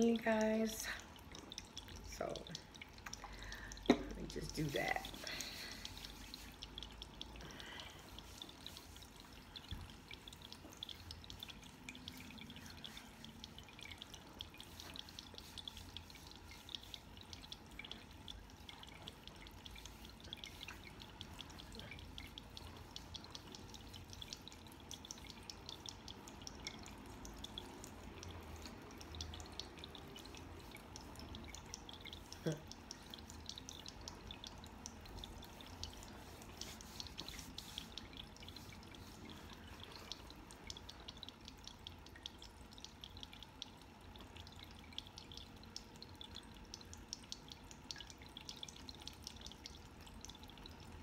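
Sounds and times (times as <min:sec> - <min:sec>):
tabletop fountain trickling: 0:00.0 - 0:51.0
tiny water drips: 0:00.0 - 0:51.0.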